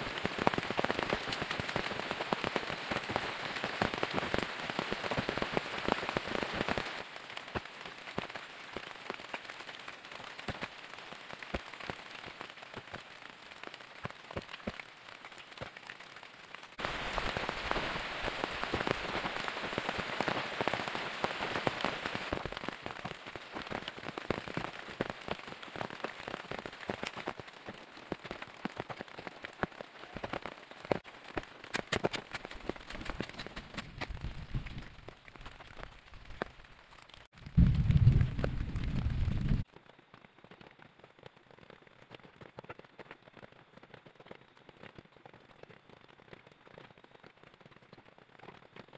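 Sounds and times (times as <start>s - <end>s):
rain falling through forest: 0.0s - 48.9s
raindrops ticking: 0.0s - 48.9s.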